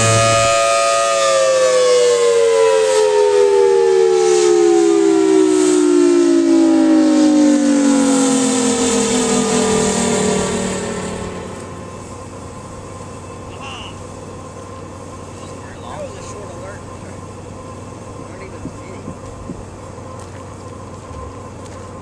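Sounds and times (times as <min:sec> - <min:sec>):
warning siren winding down: 0:00.0 - 0:19.6.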